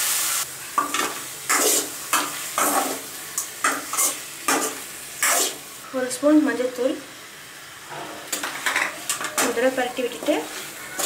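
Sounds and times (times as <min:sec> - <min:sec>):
chicken sizzling in hot pan: 0:00.0 - 0:11.0.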